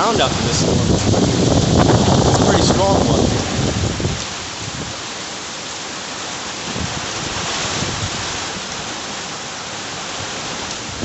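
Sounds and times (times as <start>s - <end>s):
wind storm: 0.0s - 9.3s, 9.9s - 11.0s
heavy rain pouring: 0.0s - 11.0s.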